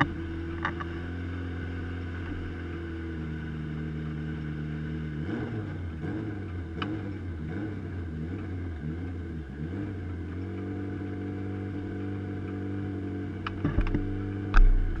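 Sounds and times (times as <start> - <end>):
race car engine idling: 0.0 - 15.0.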